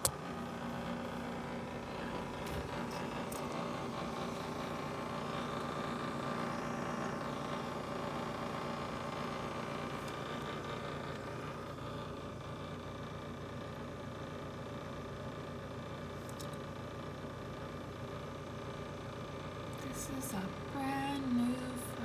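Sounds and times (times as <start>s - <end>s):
refrigerator humming: 0.0s - 22.0s.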